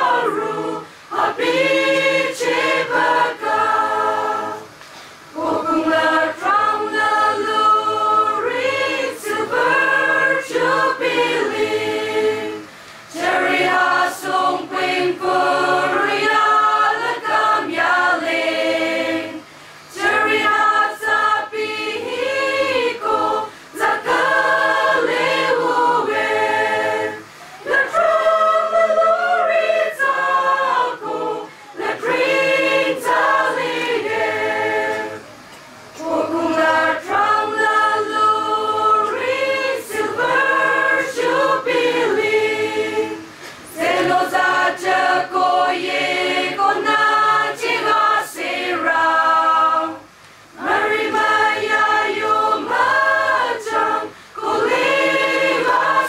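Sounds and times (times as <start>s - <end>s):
choir singing: 0.0s - 35.3s, 36.0s - 56.0s.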